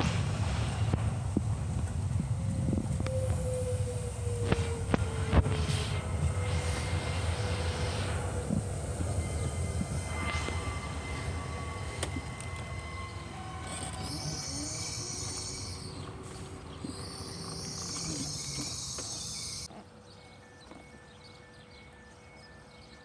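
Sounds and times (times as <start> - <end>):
loud high hissing: 0.0 - 19.7
train rumbling: 0.0 - 23.0.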